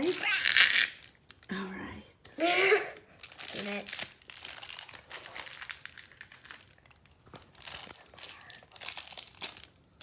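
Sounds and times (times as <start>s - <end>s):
plastic packet crinkling and tearing: 0.0s - 1.7s, 3.0s - 10.0s.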